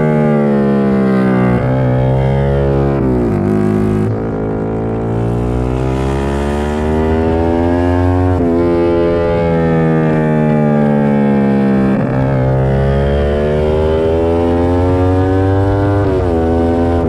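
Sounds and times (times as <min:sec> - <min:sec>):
racing motorcycle engine: 0:00.0 - 0:17.0.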